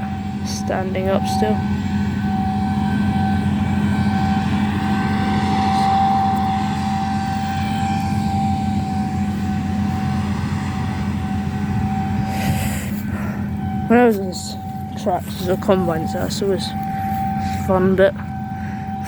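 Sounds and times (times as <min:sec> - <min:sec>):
deep diesel drone: 0:00.0 - 0:19.0
steady machine whine: 0:00.0 - 0:19.0.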